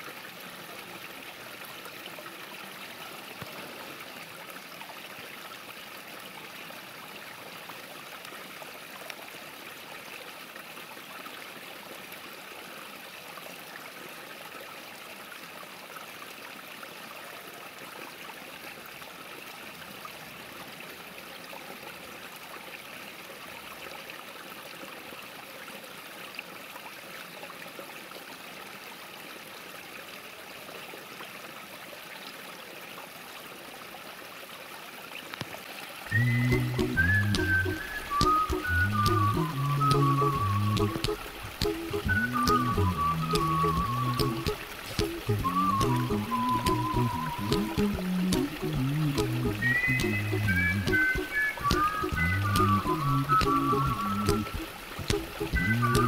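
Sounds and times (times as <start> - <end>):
creek babbling over stones: 0.0 - 56.0.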